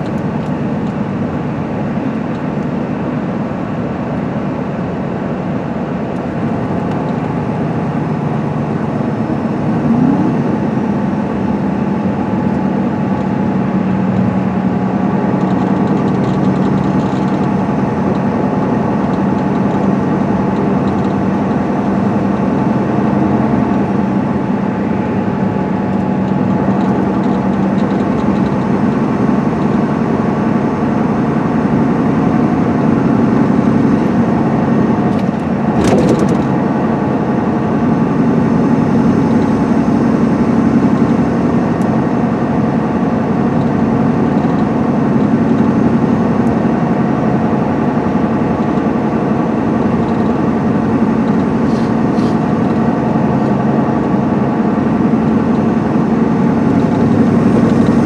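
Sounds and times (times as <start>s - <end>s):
diesel engine running: 0.0s - 58.0s
road noise: 0.0s - 58.0s.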